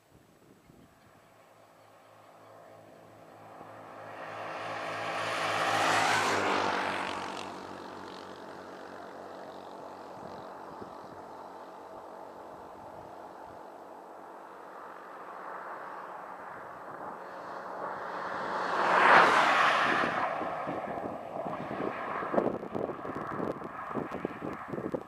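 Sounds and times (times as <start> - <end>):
vehicle passing at speed: 1.6 - 25.0.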